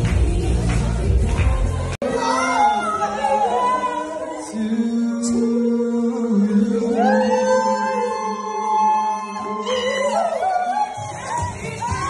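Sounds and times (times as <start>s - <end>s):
music with singing: 0.0s - 12.0s.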